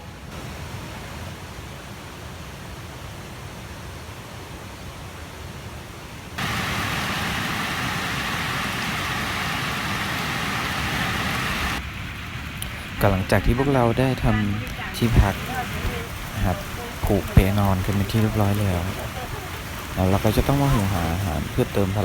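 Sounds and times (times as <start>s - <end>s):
heavy rain hissing: 0.0s - 3.8s, 6.4s - 22.0s.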